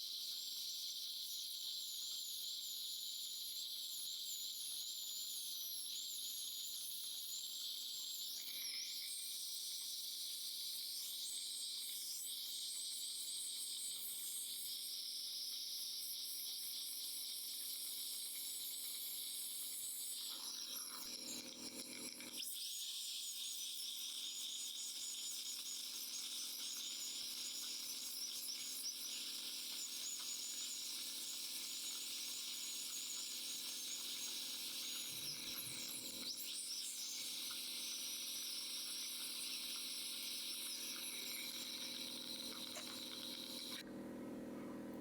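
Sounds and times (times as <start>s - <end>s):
dental drill whining: 0.1s - 43.8s.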